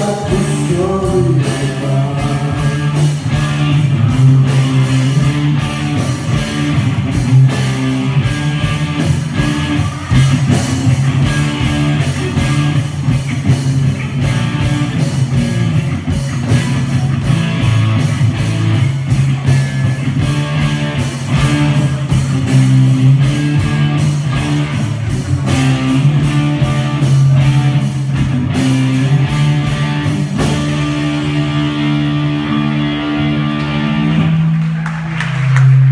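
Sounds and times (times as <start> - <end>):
steady drum beat: 0.0 - 34.6
electric guitar: 0.0 - 35.9.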